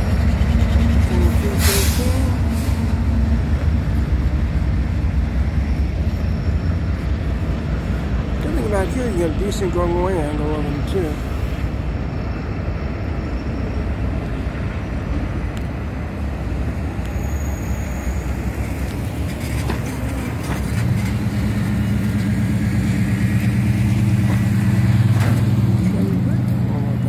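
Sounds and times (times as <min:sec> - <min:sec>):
diesel locomotives working: 0:00.0 - 0:27.0
freight train rumbling on rails: 0:00.0 - 0:27.0.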